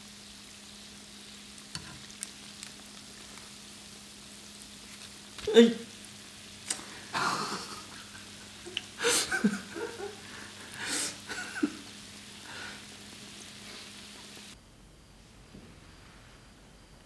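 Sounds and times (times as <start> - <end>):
dough frying in hot oil: 0.0 - 14.6.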